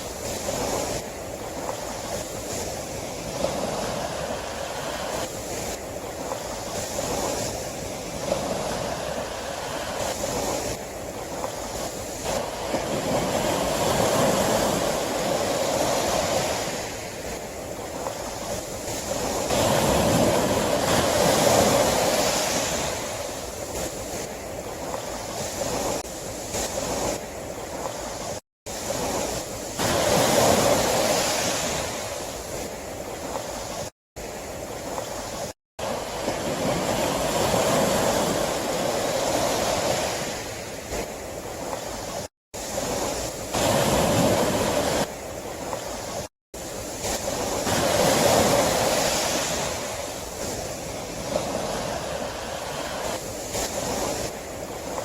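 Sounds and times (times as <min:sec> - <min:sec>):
sea waves washing onto shore: 0:00.0 - 0:55.0.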